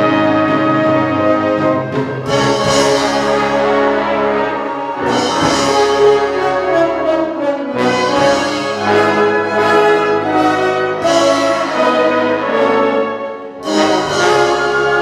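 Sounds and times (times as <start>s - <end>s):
orchestra playing held chords: 0.0s - 15.0s.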